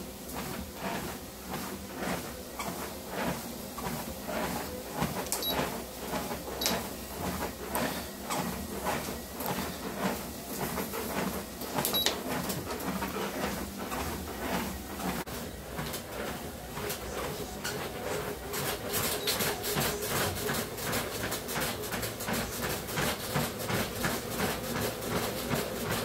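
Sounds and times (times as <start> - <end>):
treadmill running: 0.0 - 26.0
footfalls on treadmill belt: 0.3 - 26.0.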